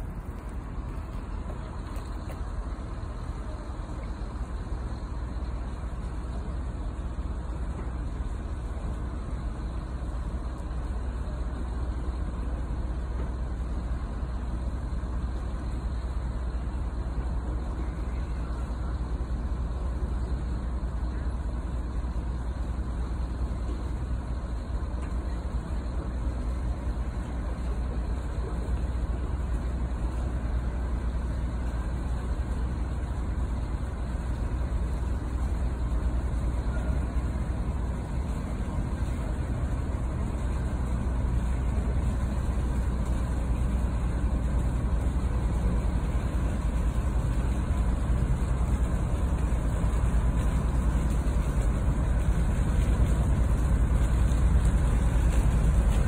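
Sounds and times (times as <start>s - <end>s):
ship low rumble: 0.0s - 56.0s.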